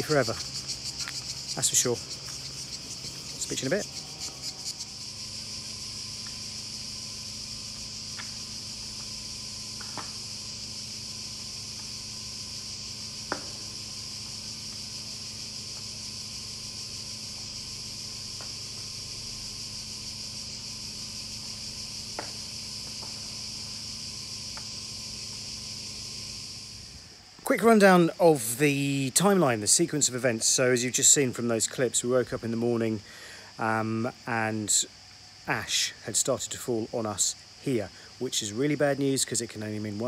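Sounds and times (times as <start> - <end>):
cicadas droning: 0.0 - 40.0.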